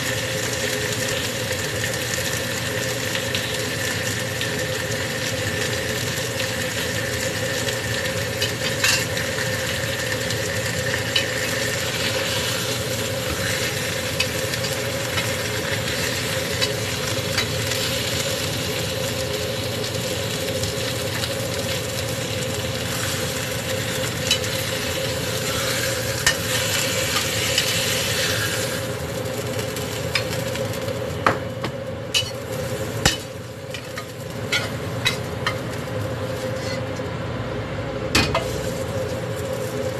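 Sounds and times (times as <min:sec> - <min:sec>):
food sizzling in oil: 0:00.0 - 0:37.0, 0:38.2 - 0:39.9
steady hum: 0:00.0 - 0:39.9.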